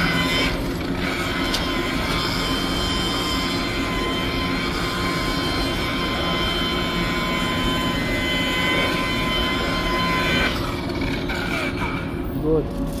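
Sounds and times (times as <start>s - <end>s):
electric polisher whining: 0.0s - 12.2s.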